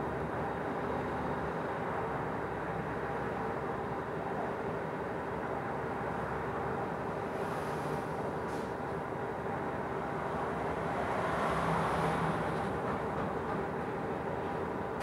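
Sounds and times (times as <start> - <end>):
bus drivetrain humming: 0.0 - 15.0
road noise: 0.0 - 15.0.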